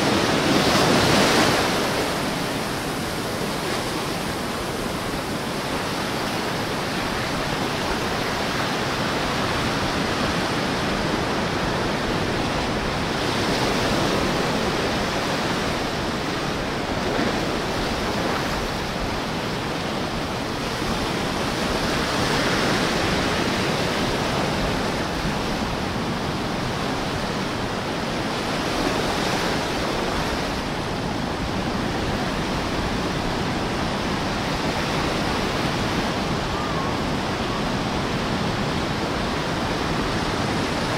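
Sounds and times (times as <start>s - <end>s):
small ocean waves washing: 0.0s - 40.9s.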